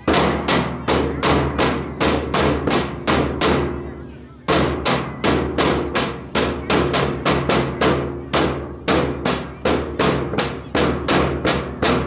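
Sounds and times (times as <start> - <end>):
percussion beat of sharp strikes: 0.0 - 12.0.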